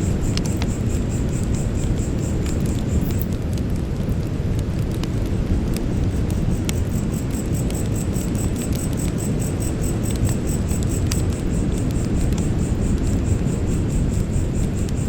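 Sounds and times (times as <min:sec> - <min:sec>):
insects chirping: 0:00.0 - 0:03.3, 0:05.8 - 0:15.0
campfire crackling: 0:00.0 - 0:15.0.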